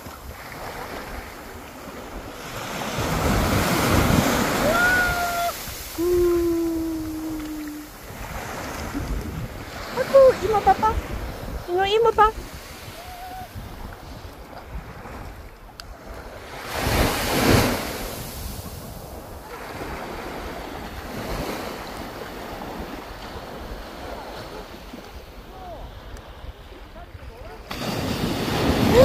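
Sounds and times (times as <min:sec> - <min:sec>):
small waves breaking on sand: 0:00.0 - 0:29.0
wind buffeting microphone: 0:00.0 - 0:29.0.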